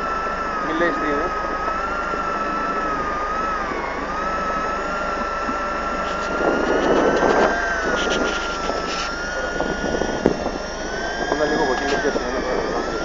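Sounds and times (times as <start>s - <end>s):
motor whining: 0.0s - 13.0s.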